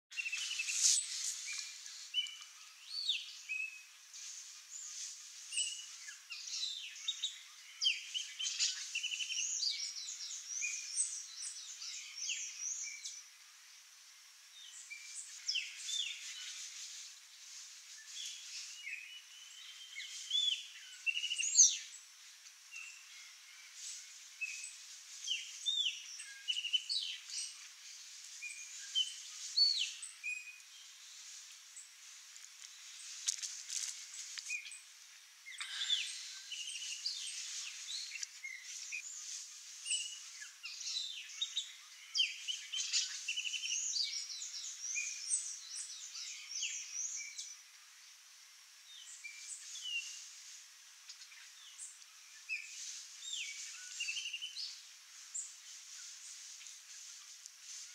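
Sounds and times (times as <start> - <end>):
wild birds chirping: 0.1 - 57.9.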